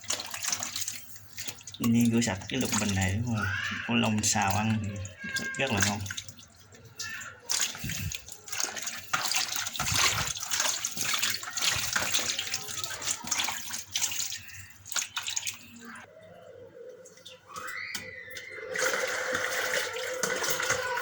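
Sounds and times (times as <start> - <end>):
splashing and sloshing water: 0.0 - 16.2, 17.0 - 21.0.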